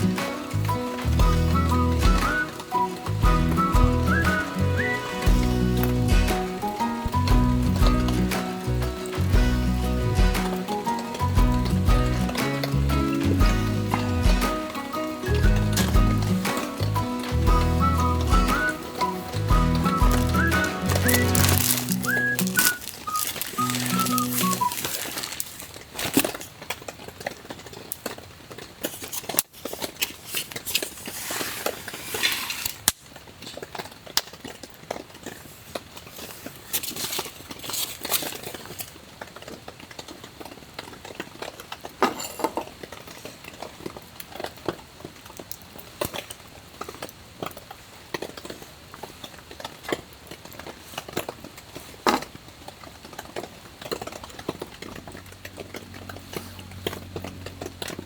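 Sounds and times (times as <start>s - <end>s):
campfire crackling and popping: 0.0s - 31.3s, 32.6s - 42.1s, 42.7s - 58.0s.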